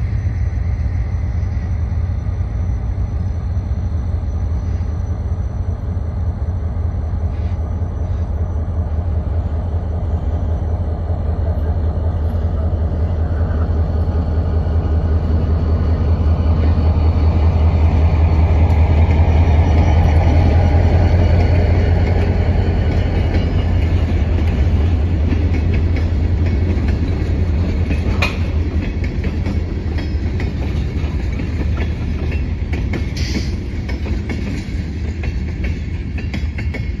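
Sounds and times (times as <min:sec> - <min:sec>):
locomotive engine rumble: 0:00.0 - 0:37.0.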